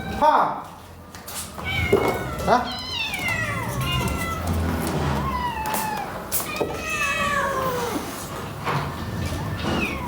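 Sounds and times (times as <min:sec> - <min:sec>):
cats meowing: 0:00.0 - 0:00.3, 0:01.4 - 0:10.0.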